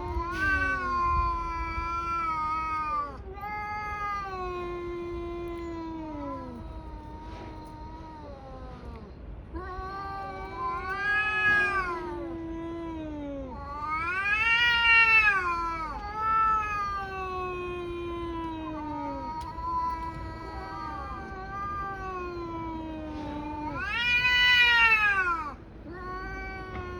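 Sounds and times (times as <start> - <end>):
cats yowling: 0.0 - 26.9.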